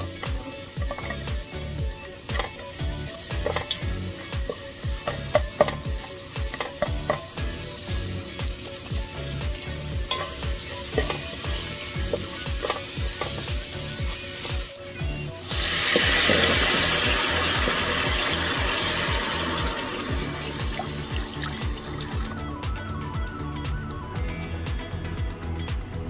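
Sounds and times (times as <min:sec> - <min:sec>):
broth hissing in hot pot: 0:00.0 - 0:22.6
onion and garlic sizzling in oil: 0:00.0 - 0:23.0
background music with steady beat: 0:00.0 - 0:26.0.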